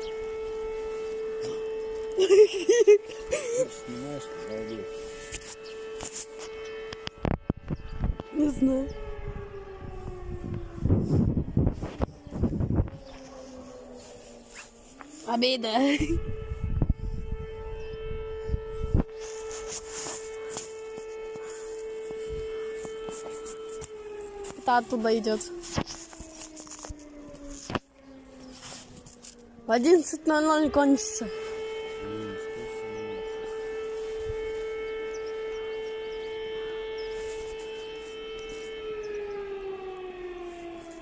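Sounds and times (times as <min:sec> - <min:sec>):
siren steady tone: 0:00.0 - 0:41.0.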